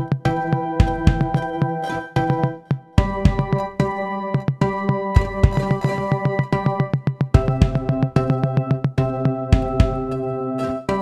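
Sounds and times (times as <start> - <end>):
programmed drum beat: 0.0 - 11.0.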